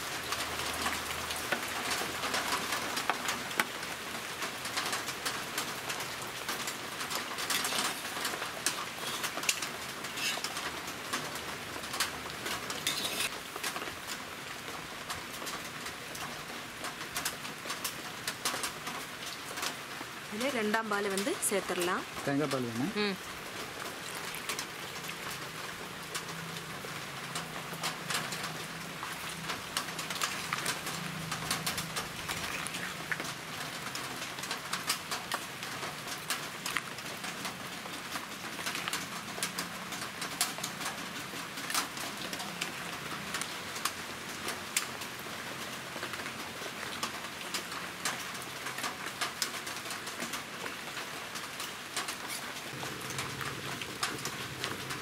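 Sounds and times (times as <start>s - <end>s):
stew simmering and bubbling: 0.0s - 47.4s, 48.0s - 55.0s.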